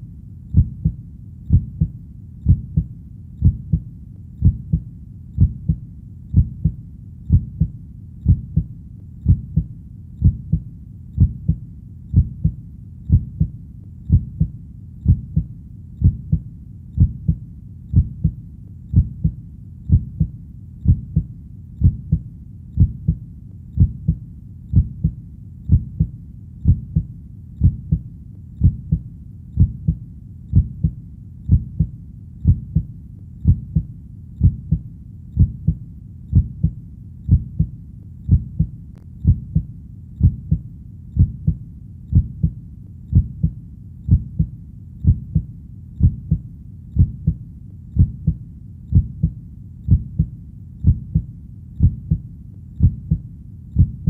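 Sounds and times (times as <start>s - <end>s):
heartbeat thumping: 0.0s - 54.0s.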